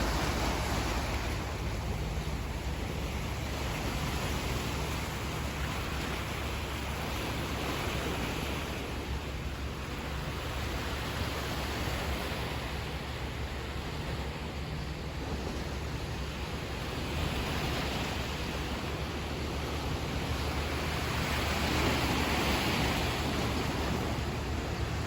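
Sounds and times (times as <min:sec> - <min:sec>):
sea surf washing: 0:00.0 - 0:25.0.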